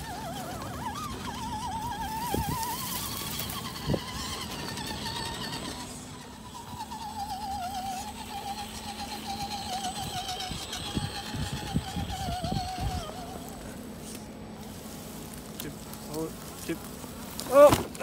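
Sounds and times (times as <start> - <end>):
rc car electric motor whine: 0.0 - 18.0.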